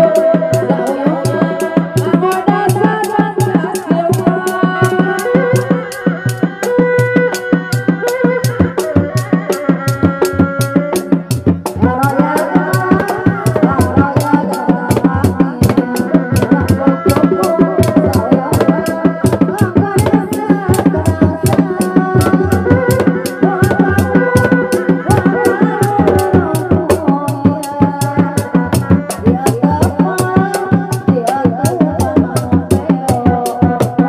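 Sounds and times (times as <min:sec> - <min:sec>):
drums beating fast rhythm: 0:00.0 - 0:34.0.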